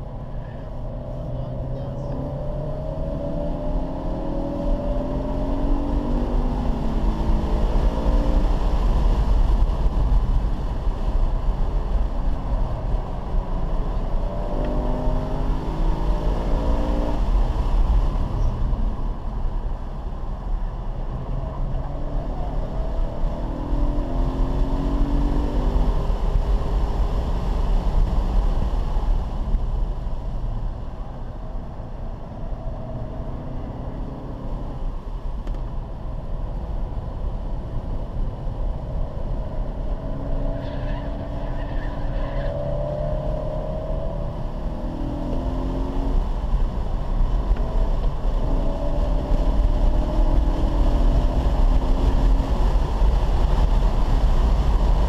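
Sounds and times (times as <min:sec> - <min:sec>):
car engine accelerating: 0:00.0 - 0:19.6, 0:20.6 - 0:55.0
road and wind noise: 0:00.0 - 0:55.0.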